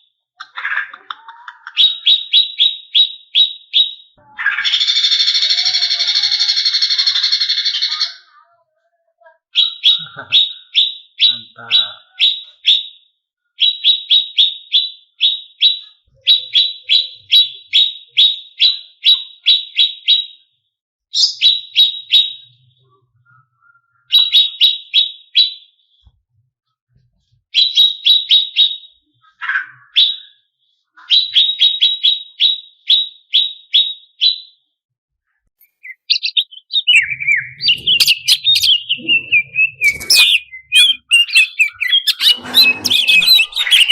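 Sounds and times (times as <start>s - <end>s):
bird singing: 0.0s - 8.3s, 9.4s - 26.0s, 27.6s - 34.7s, 35.6s - 43.9s.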